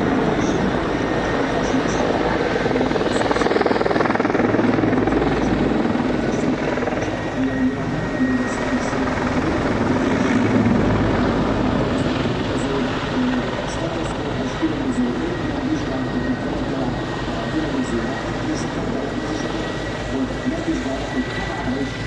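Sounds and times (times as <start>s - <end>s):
helicopter rotor and turbine rumble: 0.0s - 22.0s.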